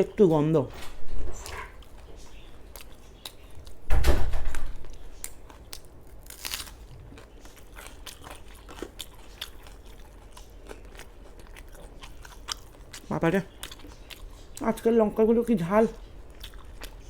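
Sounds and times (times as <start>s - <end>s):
chewing crunchy food: 1.3s - 3.9s, 4.6s - 17.0s.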